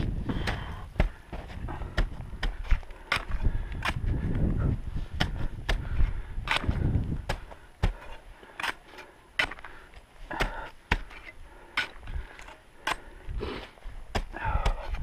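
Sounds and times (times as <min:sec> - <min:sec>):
crampons and ice axes striking snow: 0:00.0 - 0:15.0.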